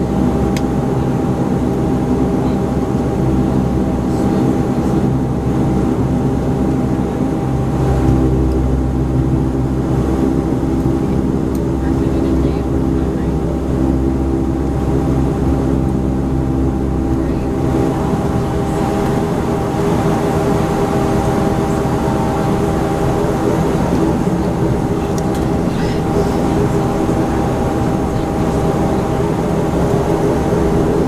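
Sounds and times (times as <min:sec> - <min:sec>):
turboprop engines droning: 0:00.0 - 0:31.0.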